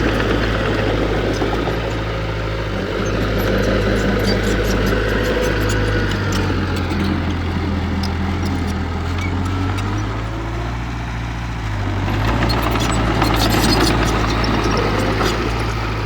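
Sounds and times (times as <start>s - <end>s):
diesel engine working: 0.0s - 16.0s.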